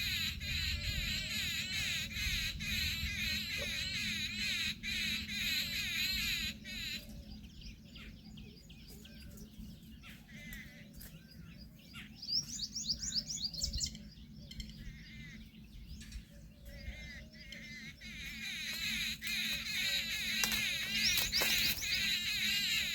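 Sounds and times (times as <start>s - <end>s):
loud warbling bird trill: 0.0s - 11.0s, 11.9s - 22.9s
birds chirping and calling: 0.0s - 22.9s.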